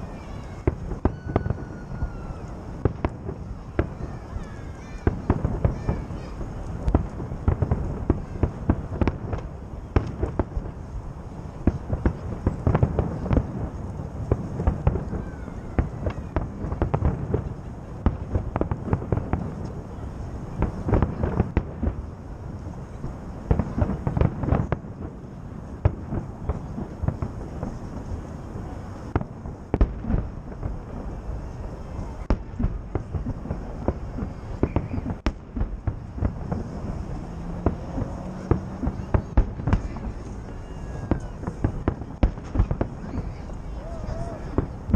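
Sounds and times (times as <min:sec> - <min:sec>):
deep fireworks rumble: 0:00.0 - 0:44.9
fireworks bangs: 0:00.0 - 0:44.9.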